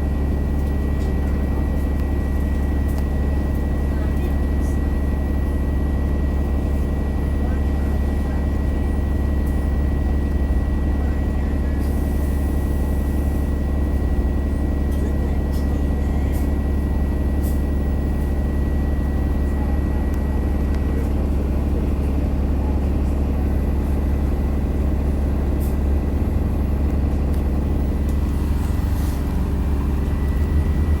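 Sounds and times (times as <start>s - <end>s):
bus diesel engine drone: 0.0s - 31.0s.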